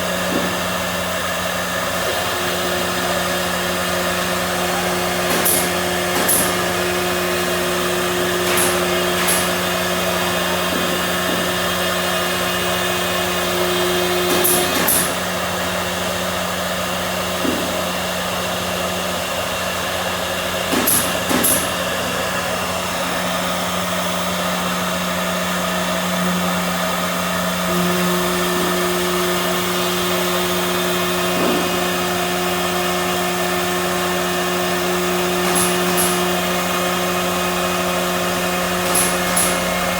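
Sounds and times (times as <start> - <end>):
machine motors whining and humming: 0.0 - 39.9.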